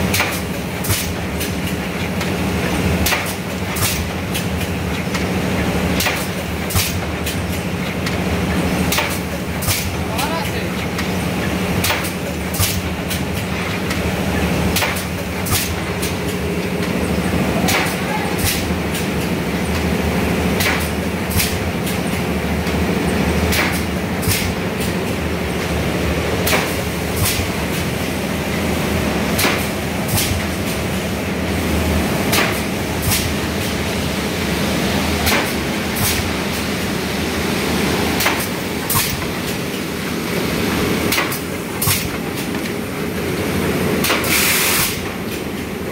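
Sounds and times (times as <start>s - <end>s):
machine clacks: 0.0s - 19.9s, 20.5s - 25.7s, 26.4s - 27.9s, 29.3s - 30.9s, 32.2s - 33.8s, 35.1s - 36.7s, 38.1s - 39.8s, 41.0s - 42.9s, 44.0s - 45.8s.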